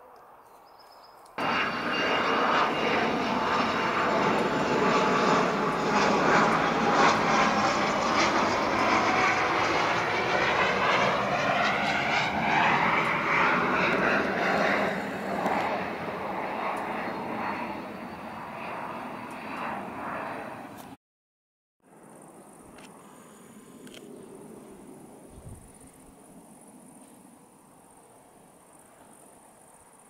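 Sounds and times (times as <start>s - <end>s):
jet engine whine: 1.3s - 21.0s, 21.9s - 30.0s.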